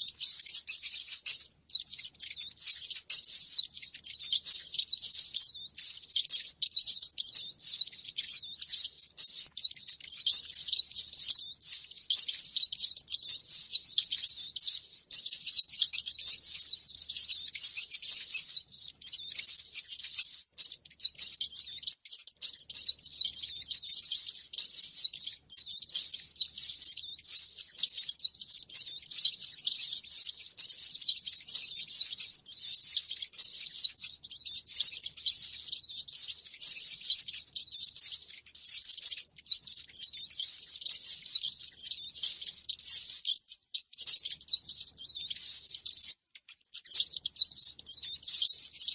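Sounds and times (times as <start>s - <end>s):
rats squeaking: 0.0s - 48.9s.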